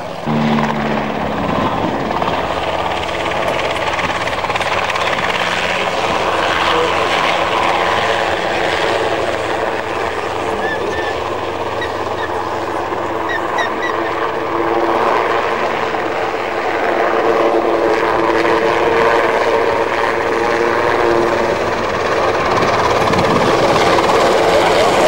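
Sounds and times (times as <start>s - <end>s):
propeller plane droning overhead: 0.0s - 25.0s.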